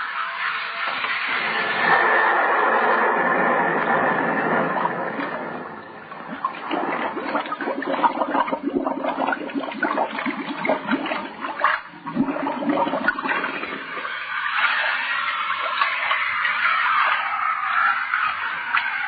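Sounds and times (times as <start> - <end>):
water bubbling and gurgling: 0.0 - 19.0.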